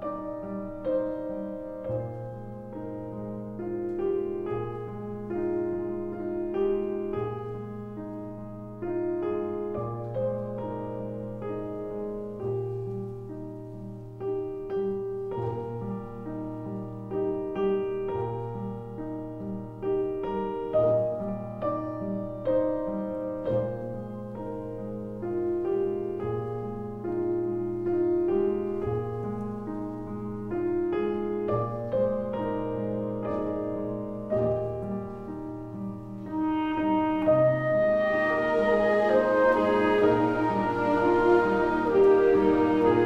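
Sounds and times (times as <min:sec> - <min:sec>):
gentle piano music: 0:00.0 - 0:43.0.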